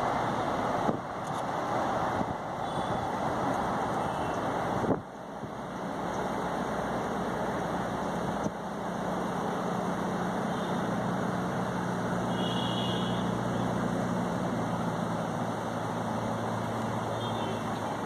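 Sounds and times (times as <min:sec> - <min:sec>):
distant locomotive engine drone: 0:00.0 - 0:18.0.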